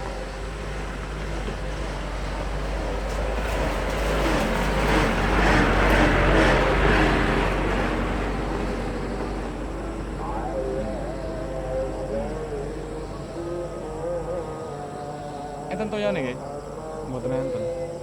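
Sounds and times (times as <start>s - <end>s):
motor vehicle passing by: 0.0s - 18.0s.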